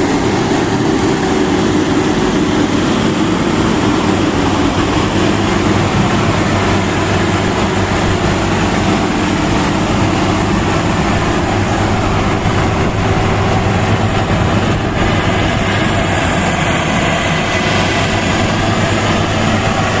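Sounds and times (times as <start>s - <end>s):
combine harvester droning: 0.0s - 20.0s.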